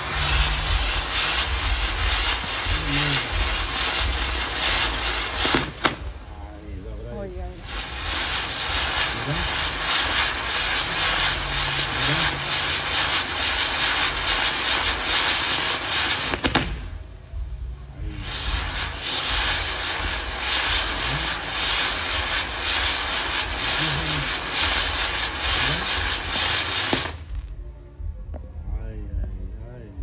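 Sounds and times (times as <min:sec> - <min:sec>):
sharp firework crack: 0:00.0 - 0:27.6
fireworks hissing and crackling: 0:00.0 - 0:27.7.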